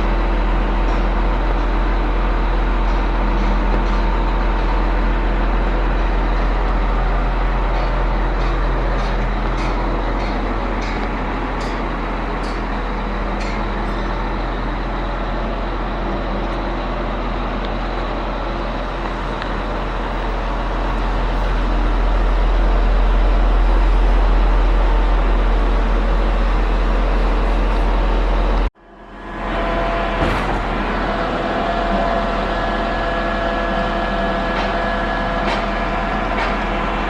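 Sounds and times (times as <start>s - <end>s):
pump truck engine rumbling: 0.0s - 37.0s.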